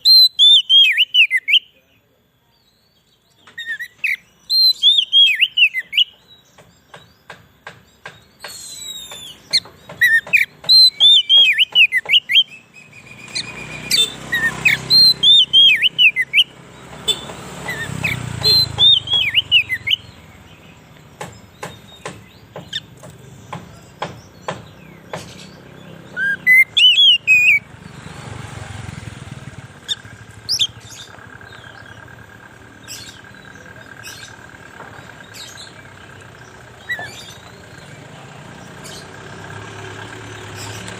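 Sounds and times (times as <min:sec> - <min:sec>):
bird whistling song: 0:00.0 - 0:01.8, 0:02.7 - 0:34.6, 0:35.2 - 0:39.7.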